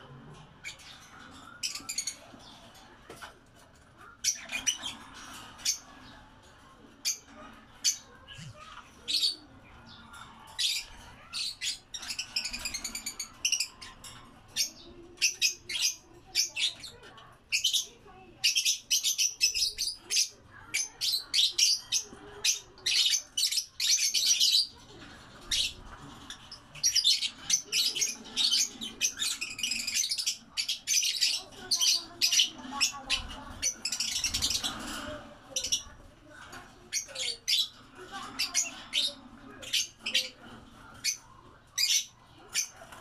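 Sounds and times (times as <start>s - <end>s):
lovebirds chirping: 3.8s - 42.9s.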